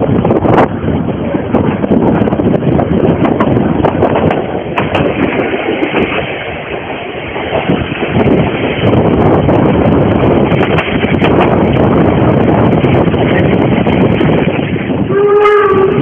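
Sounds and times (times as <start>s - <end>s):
steam train wheels clattering on rails: 0.0s - 16.0s.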